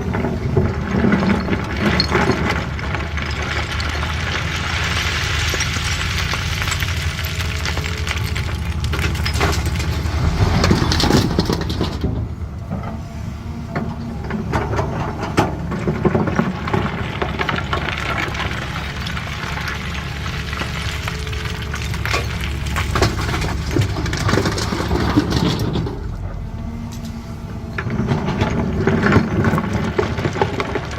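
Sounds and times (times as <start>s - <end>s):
diesel excavator engine running: 0.0s - 30.9s.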